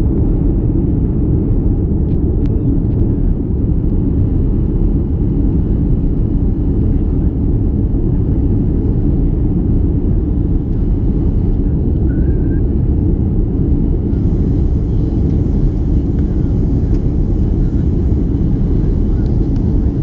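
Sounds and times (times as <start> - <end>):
jet engine cabin rumble: 0.0 - 20.0.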